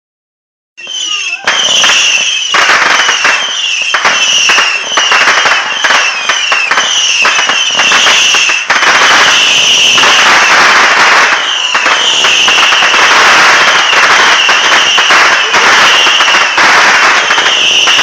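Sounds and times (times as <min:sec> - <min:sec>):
firework whistle: 0:00.8 - 0:18.0
fireworks crackling: 0:00.8 - 0:18.0.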